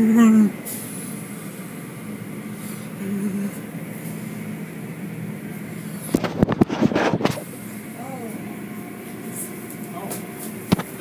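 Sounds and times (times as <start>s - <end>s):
car wash machinery humming: 0.0s - 11.0s.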